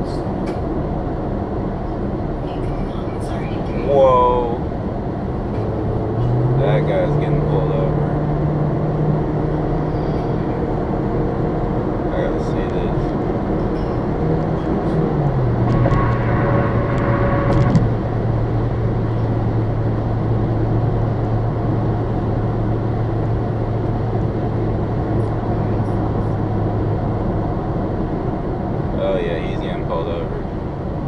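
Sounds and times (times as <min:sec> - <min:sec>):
car road and engine noise: 0:00.0 - 0:31.0
whoosh with faint whine: 0:01.3 - 0:31.0.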